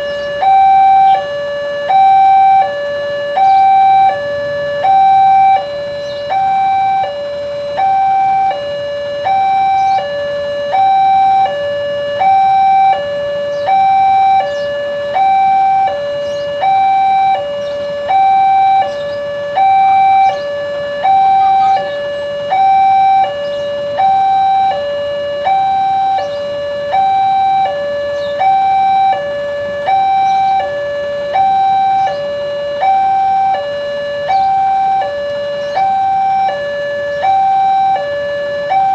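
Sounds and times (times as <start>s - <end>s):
two-tone level crossing alarm: 0.0s - 38.9s.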